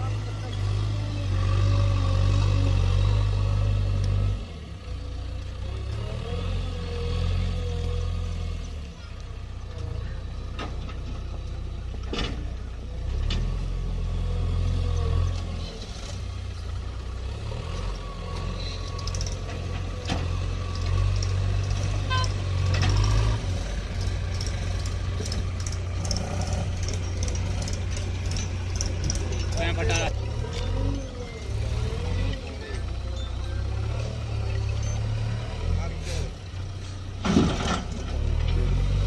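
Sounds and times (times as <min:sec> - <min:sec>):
heavy diesel machinery working: 0:00.0 - 0:39.0.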